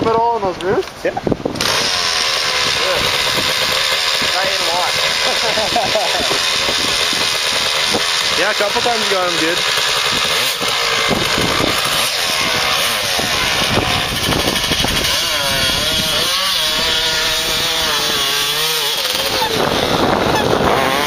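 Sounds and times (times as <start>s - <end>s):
dirt bike engines revving: 0.1s - 21.0s.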